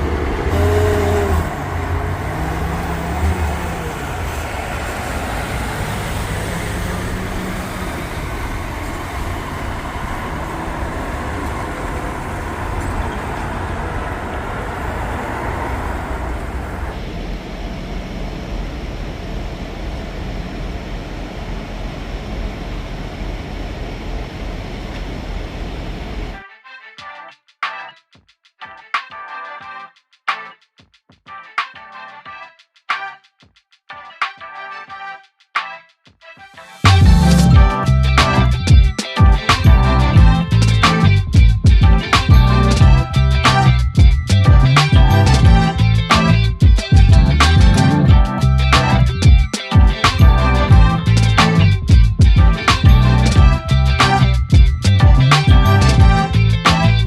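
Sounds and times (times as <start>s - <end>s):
traffic noise: 0.0s - 26.4s, 36.8s - 57.0s
truck engines: 0.0s - 26.4s, 36.8s - 57.0s.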